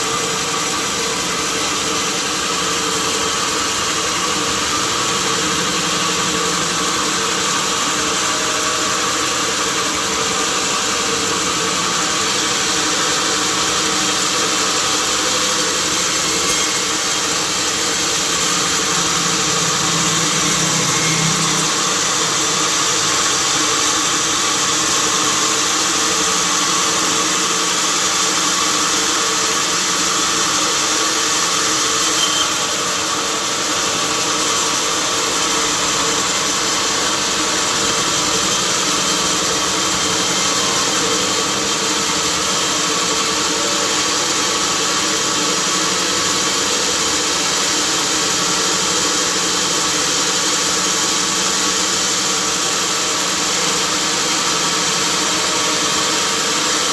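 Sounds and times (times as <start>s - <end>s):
sawmill machinery drone: 0.0s - 56.9s.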